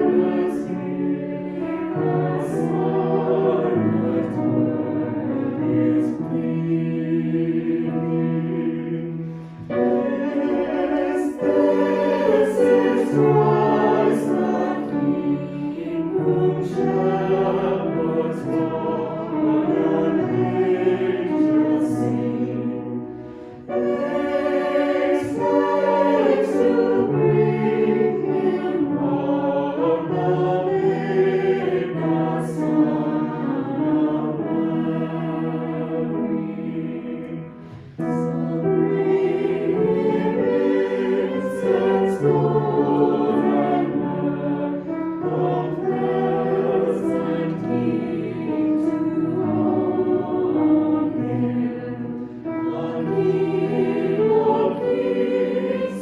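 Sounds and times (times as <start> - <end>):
choir singing sustained chords: 0.0 - 56.0.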